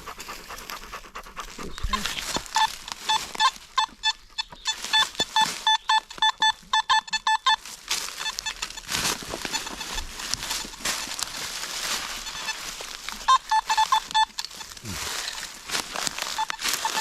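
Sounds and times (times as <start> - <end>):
rustling and crackling: 0.0 - 17.0
metal detector beeping: 1.7 - 17.0.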